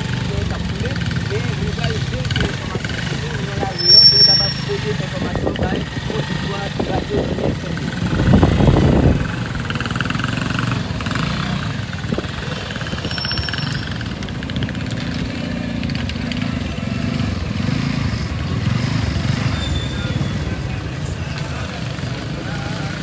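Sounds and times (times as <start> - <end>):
street noise: 0.0 - 23.0
vehicle engine running: 0.0 - 23.0.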